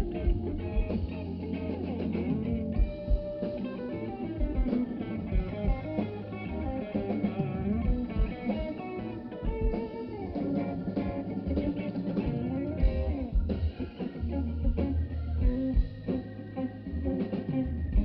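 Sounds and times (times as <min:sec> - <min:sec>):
blues band playing: 0:00.0 - 0:18.0
electric guitar lead lines: 0:00.0 - 0:18.0.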